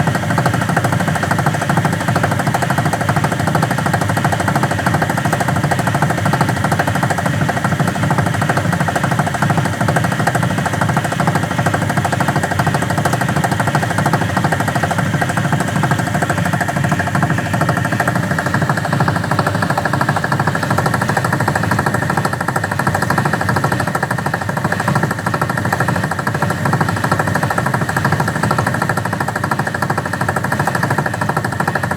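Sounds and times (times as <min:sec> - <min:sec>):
washing machine rattling on spin: 0:00.0 - 0:31.9.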